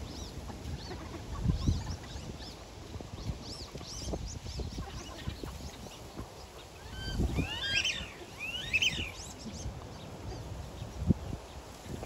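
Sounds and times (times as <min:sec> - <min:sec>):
ducks calling: 0:00.0 - 0:10.6
wind rumble on microphone: 0:00.0 - 0:12.0.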